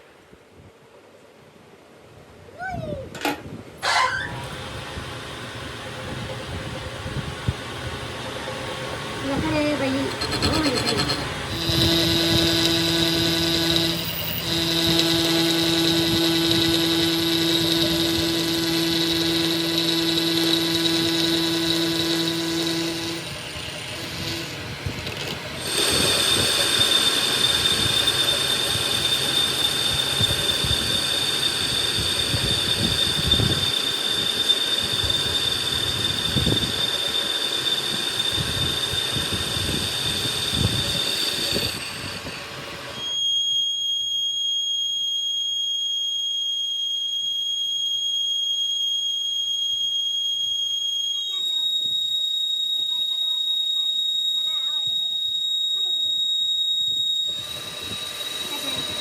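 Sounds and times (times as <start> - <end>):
power tool running: 3.8 - 45.7, 50.2 - 59.0.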